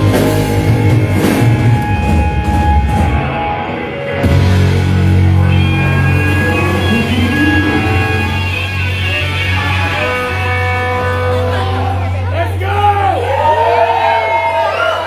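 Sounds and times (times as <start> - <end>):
electric guitar held notes: 0.0 - 12.3
heavy bass line: 0.0 - 14.0.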